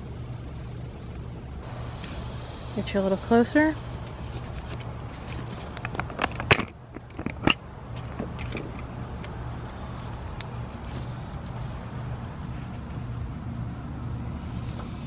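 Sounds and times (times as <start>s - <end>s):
grinding bearing noise: 1.6s - 15.0s.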